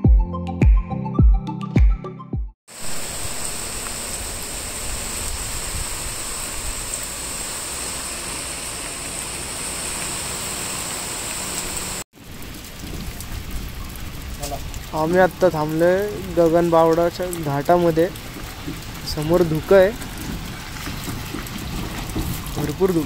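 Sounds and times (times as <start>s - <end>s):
heavy rain hissing: 2.7s - 23.0s.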